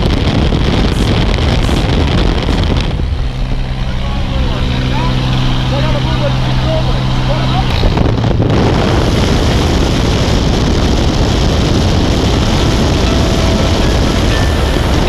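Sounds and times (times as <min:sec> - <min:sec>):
wind rushing: 0:00.0 - 0:05.7, 0:07.0 - 0:15.0
propeller engine noise: 0:00.0 - 0:15.0.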